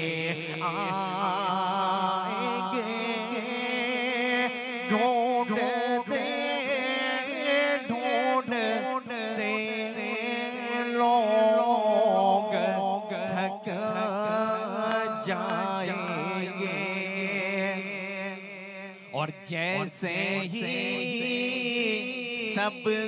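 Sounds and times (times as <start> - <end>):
man singing into microphone: 0.0 - 18.5, 19.1 - 23.0.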